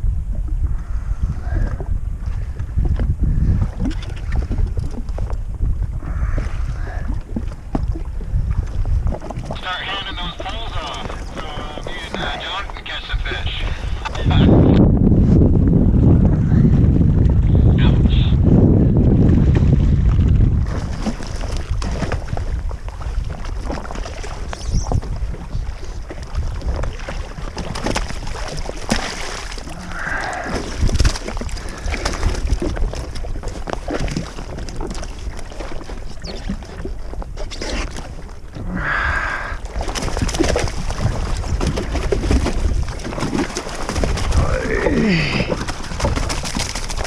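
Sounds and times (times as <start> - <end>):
water sloshing against hull: 0.0 - 47.0
wind on microphone: 0.0 - 47.0.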